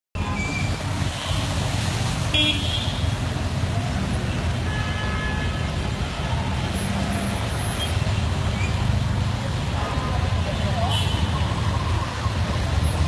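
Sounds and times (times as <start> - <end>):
road traffic rumble: 0.2 - 13.0.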